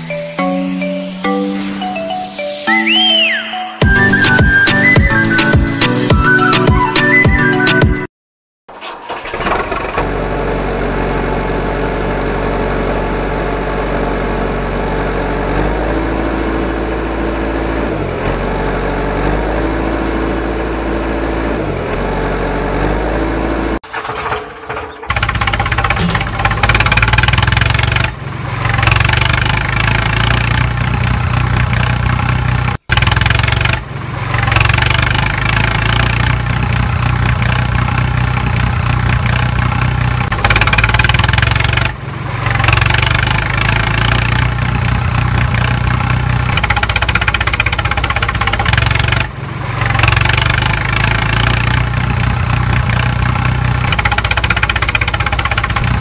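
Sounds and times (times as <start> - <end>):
diesel engine idling: 8.7 - 56.0.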